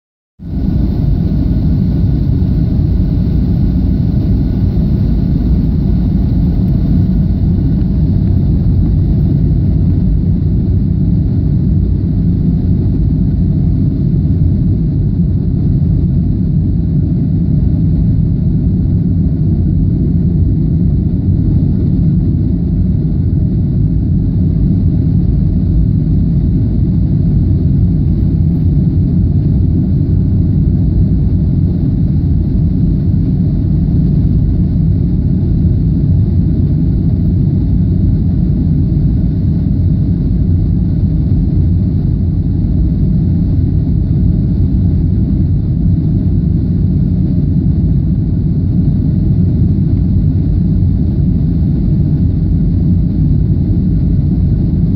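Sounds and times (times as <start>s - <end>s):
jet engines rumbling: 0.4s - 54.9s.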